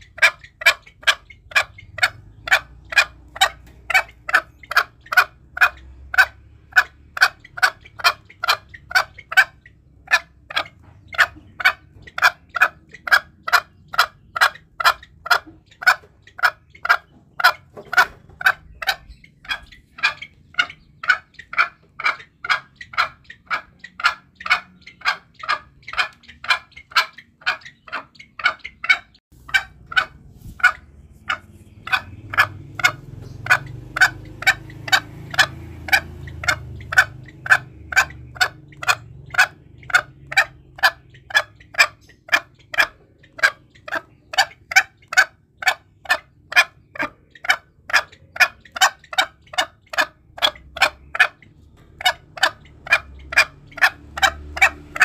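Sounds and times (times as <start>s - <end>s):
junglefowl clucking: 0.0s - 55.0s.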